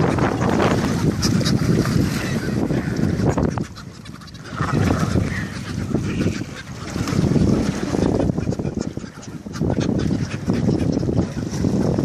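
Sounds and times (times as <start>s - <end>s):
seabird calls: 0.0s - 11.6s
wind on microphone: 0.0s - 12.0s.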